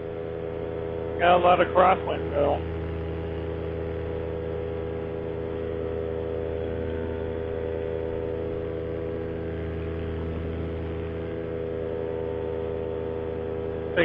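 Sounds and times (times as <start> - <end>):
paramotor engine drone: 0.0 - 14.0.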